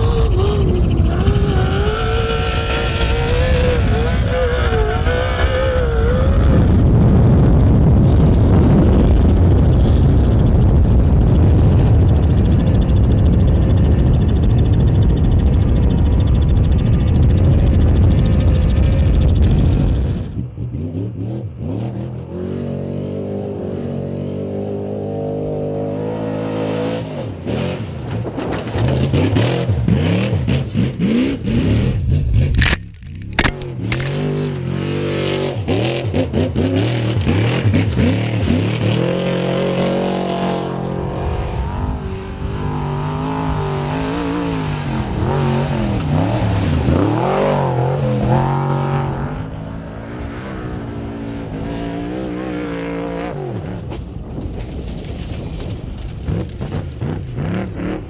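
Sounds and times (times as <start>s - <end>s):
truck engines revving hard: 0.0s - 32.6s, 33.4s - 53.9s, 56.2s - 58.0s.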